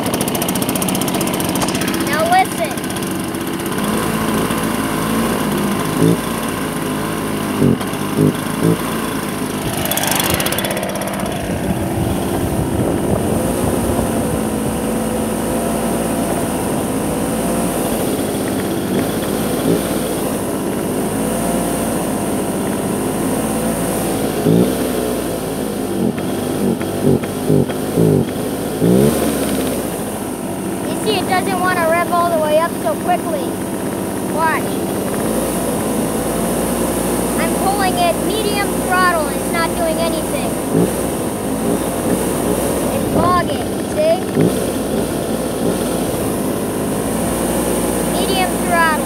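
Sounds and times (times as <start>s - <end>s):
blower engine running unevenly: 0.0s - 49.0s.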